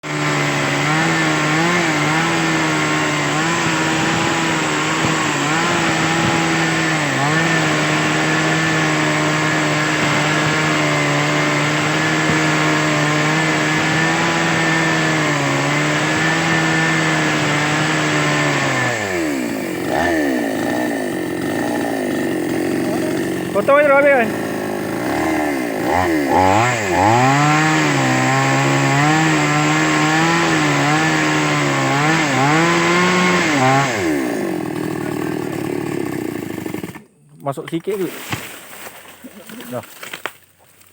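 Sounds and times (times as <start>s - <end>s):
chainsaw engine revving: 0.0s - 37.1s.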